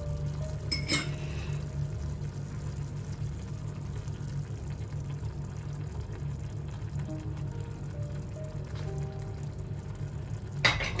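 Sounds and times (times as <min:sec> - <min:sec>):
food simmering and bubbling in pan: 0:00.0 - 0:11.0
steady low hum: 0:00.0 - 0:11.0.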